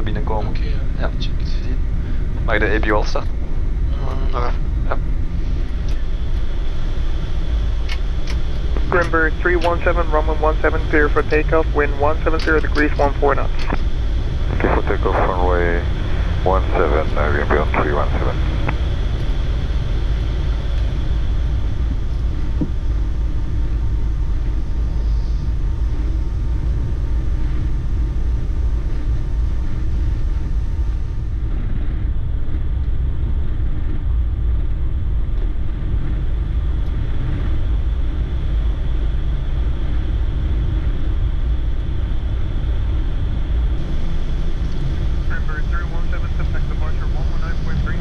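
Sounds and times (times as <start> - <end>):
low rumble in aircraft cockpit: 0.0 - 48.0.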